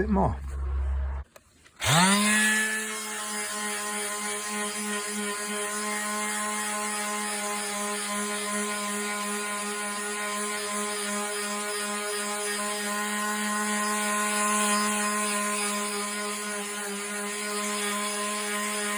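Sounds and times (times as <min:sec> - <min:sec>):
palm sander on metal: 0:01.8 - 0:18.9.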